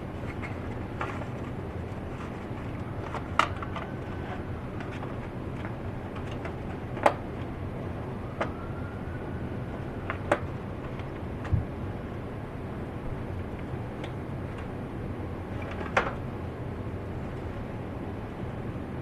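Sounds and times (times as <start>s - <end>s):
furnace humming: 0.0s - 19.0s.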